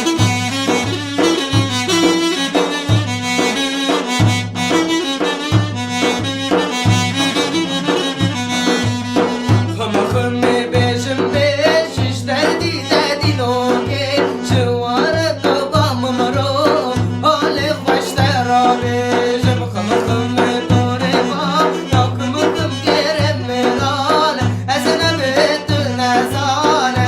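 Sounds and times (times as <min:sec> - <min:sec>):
ornamented folk melody: 0:00.0 - 0:27.0.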